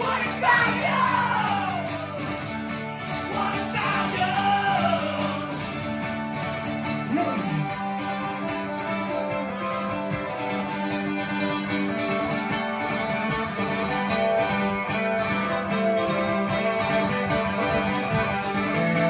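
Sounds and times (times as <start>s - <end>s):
acoustic guitar: 0.0s - 19.0s
mandolin: 0.0s - 19.0s.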